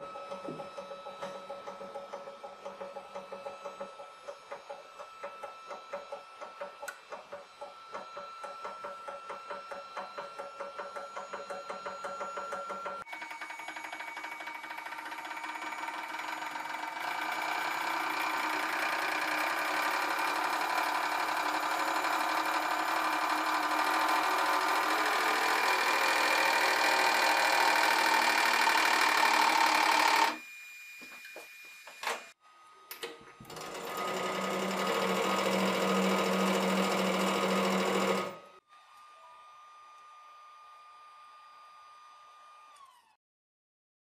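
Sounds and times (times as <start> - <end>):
hydraulic press pump whining: 0.0 - 38.6.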